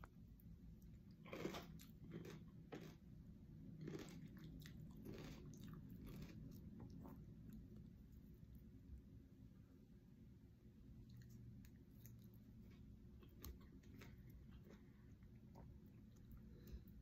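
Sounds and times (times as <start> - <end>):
person chewing crunchy vegetables: 0.0 - 8.1, 11.0 - 17.0.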